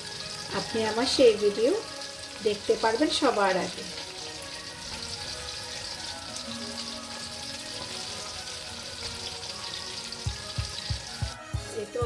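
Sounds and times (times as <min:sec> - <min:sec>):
food sizzling in hot oil: 0:00.0 - 0:12.0
soft background music: 0:00.0 - 0:12.0.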